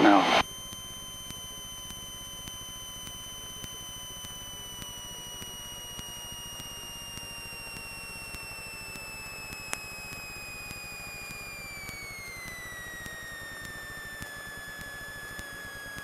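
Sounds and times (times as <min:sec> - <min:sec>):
high-pitched cockpit whine: 0:00.0 - 0:16.0.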